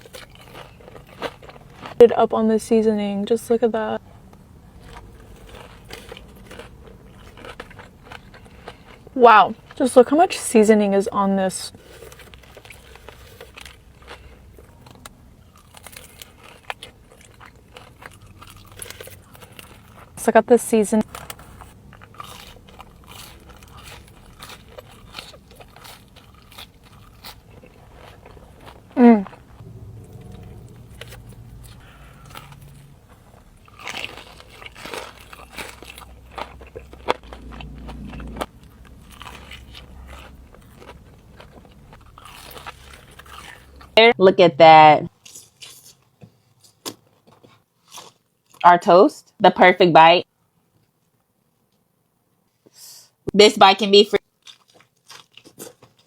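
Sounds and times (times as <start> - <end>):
chewing crisp food: 0.0 - 20.2, 21.0 - 44.0, 45.1 - 48.6, 54.2 - 56.0.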